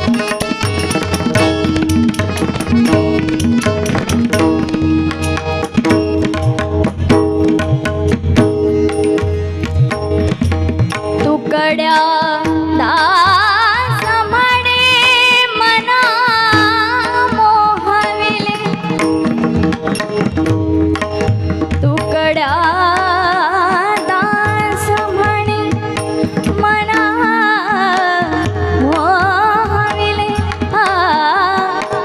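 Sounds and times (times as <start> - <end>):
harmonium drone: 0.0 - 32.0
tabla beats: 0.0 - 32.0.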